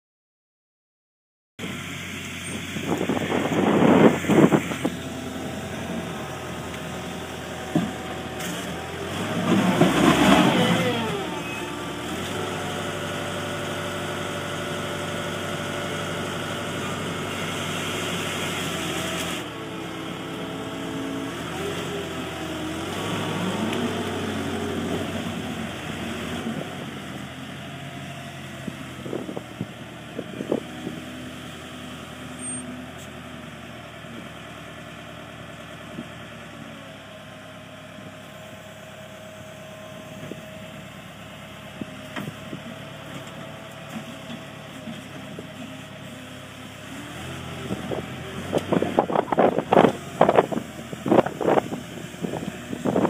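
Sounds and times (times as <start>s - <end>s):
diesel engine revving: 1.6s - 53.0s.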